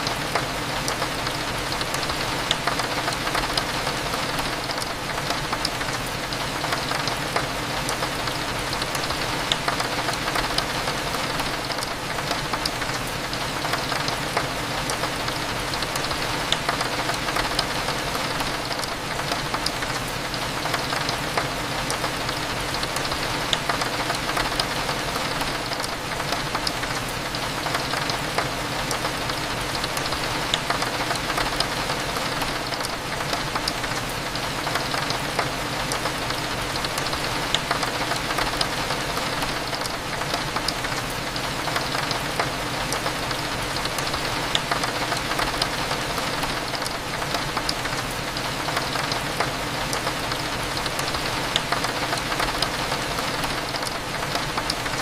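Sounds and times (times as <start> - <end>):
rain ticking on a window: 0.0 - 55.0.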